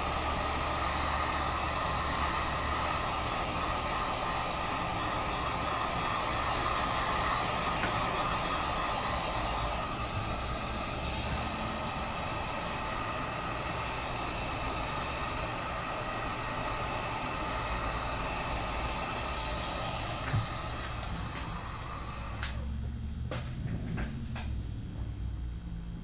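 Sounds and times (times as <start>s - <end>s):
heat gun blowing: 0.0s - 22.8s.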